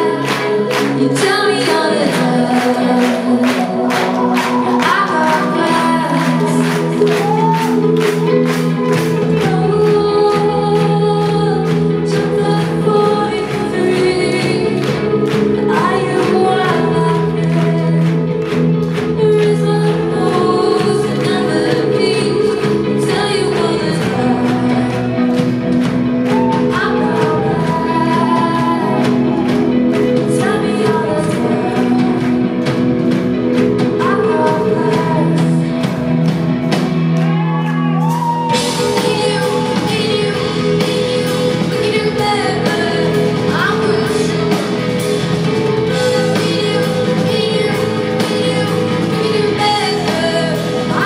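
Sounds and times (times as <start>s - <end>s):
female lead vocal: 0.0s - 51.0s
live rock band playing: 0.0s - 51.0s.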